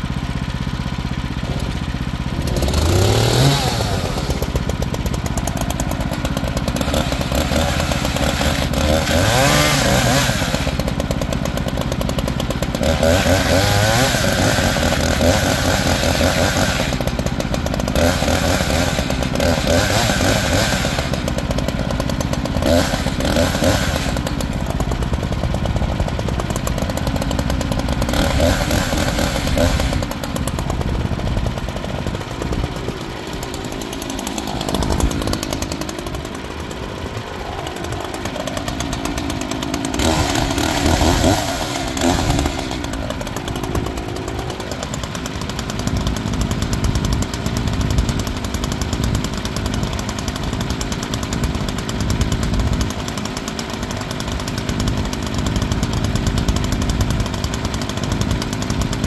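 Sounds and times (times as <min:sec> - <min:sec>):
band sawmill sawing log: 0:00.0 - 0:59.0.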